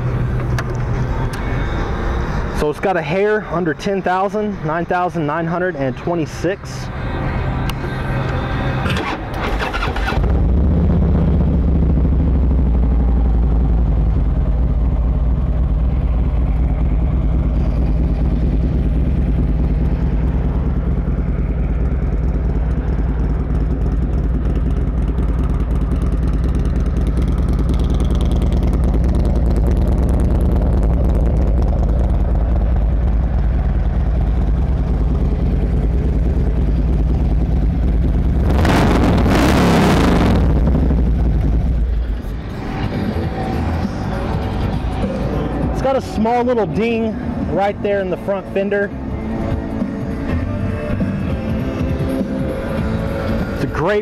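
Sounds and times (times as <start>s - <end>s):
motorcycle engine idling: 6.7s - 38.5s, 40.4s - 54.0s.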